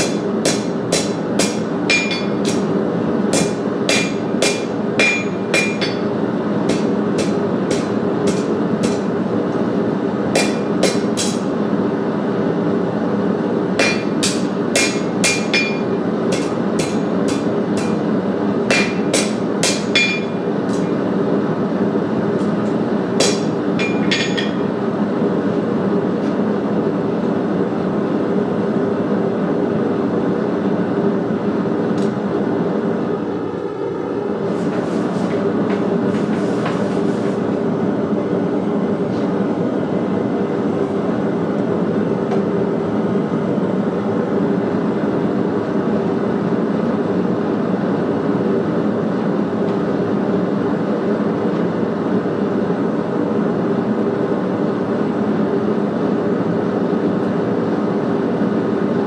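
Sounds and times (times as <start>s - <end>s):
machine roaring with low hum: 0.0s - 59.0s.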